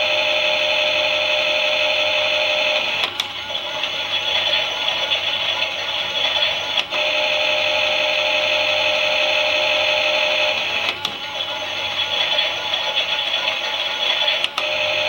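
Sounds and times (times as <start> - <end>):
toy washing machine motor whirring: 0.0 - 15.0.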